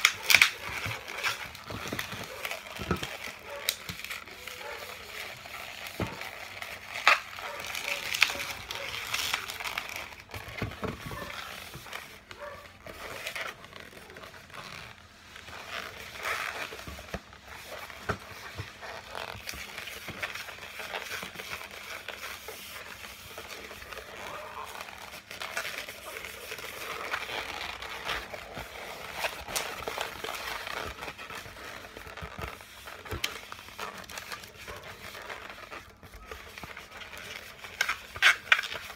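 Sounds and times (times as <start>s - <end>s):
rubber balloons rubbing and crinkling: 0.0s - 38.9s.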